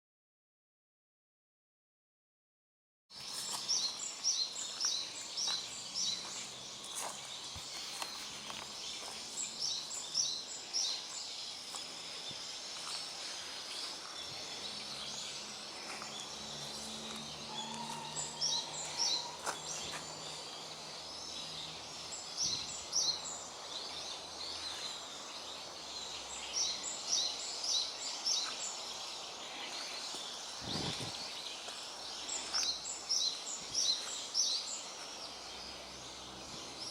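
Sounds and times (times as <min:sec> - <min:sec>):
songbirds calling: 0:03.1 - 0:36.9.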